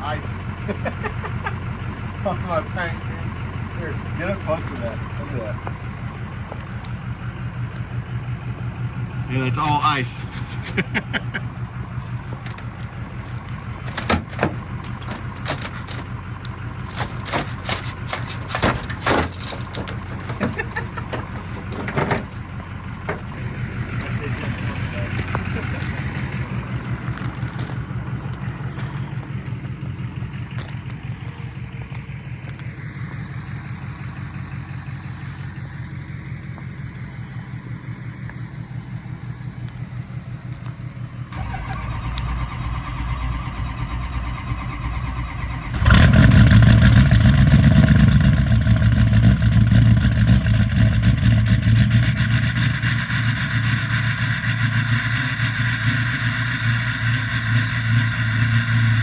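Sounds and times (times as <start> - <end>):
deeper engine rumble: 0.0 - 59.0
diesel engine starting: 0.0 - 59.0
engine idling: 0.0 - 59.0.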